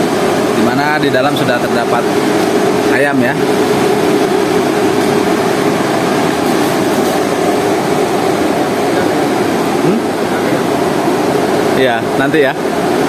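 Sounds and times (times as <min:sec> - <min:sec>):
air conditioner fan whirring: 0:00.0 - 0:13.0
steady hum: 0:00.0 - 0:13.0.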